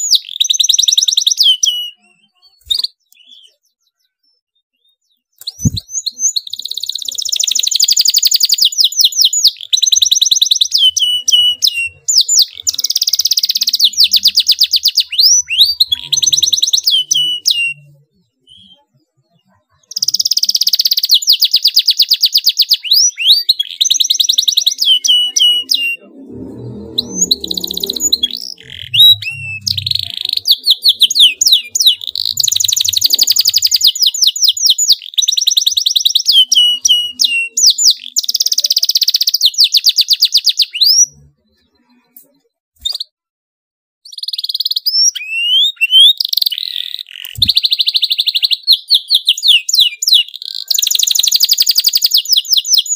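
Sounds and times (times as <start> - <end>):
canary singing fast trills: 0.0 - 43.1, 44.0 - 52.9.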